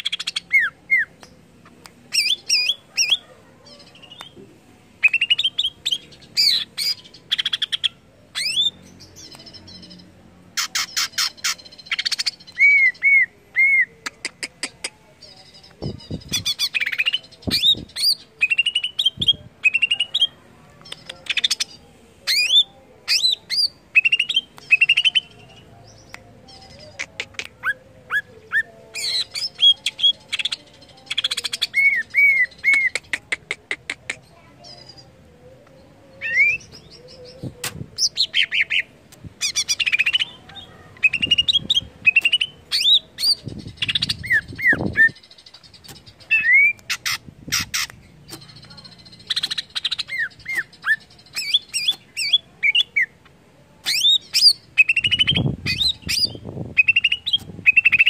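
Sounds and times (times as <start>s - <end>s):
bird singing varied song: 0.0s - 33.2s, 34.2s - 58.0s.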